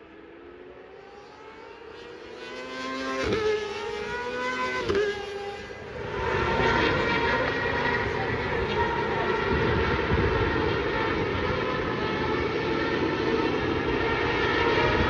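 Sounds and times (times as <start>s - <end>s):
racing motorbikes accelerating: 0.0s - 15.0s.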